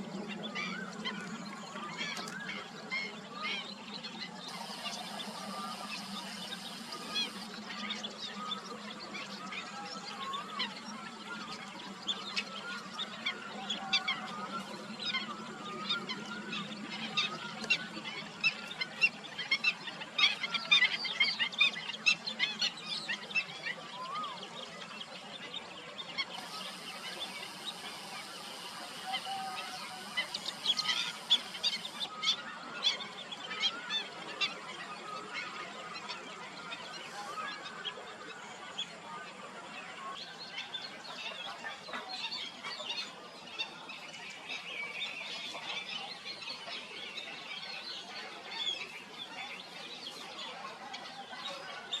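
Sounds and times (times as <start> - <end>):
chorus of birds calling: 0.0 - 52.0.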